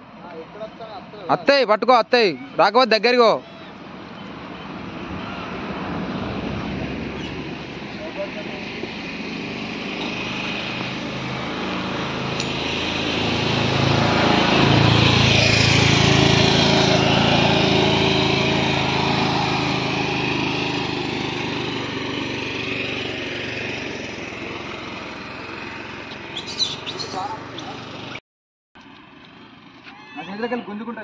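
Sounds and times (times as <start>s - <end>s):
vehicle engine passing: 0.0s - 28.2s.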